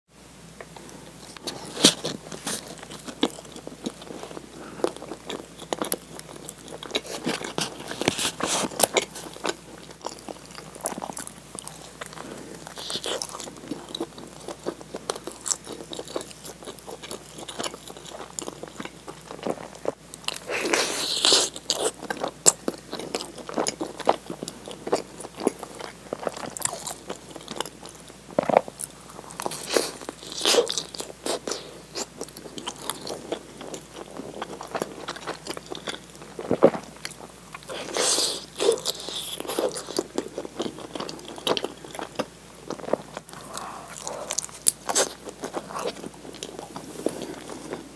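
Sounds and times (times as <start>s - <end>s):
biting and chewing bread: 0.7s - 47.9s
small crunches: 0.7s - 47.9s.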